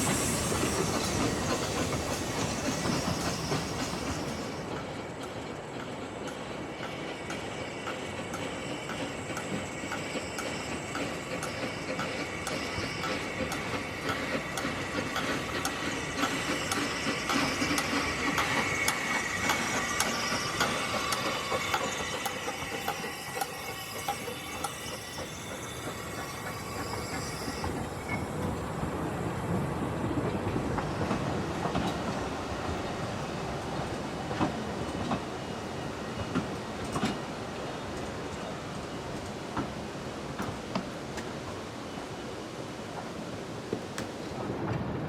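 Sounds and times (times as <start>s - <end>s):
train wheels clicking over rail joints: 0.0s - 29.2s, 30.2s - 41.6s
high squeal of train wheels: 0.0s - 43.4s
low train rumble: 0.0s - 45.0s.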